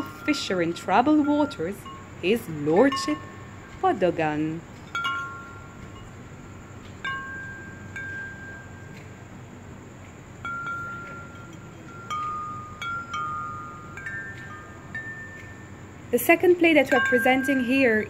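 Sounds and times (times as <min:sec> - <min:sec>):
wind chimes ringing: 0:00.0 - 0:09.4, 0:10.3 - 0:18.0.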